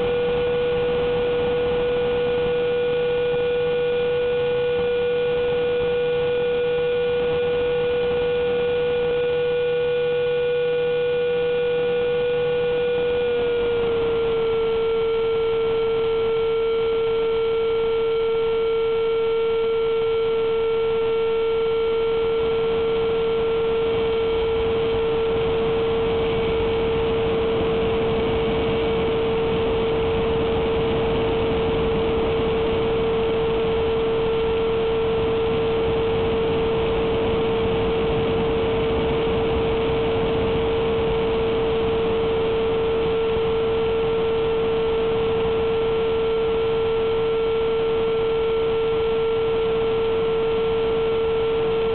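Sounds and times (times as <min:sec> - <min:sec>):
electric ducted fan whine: 0:00.0 - 0:51.9.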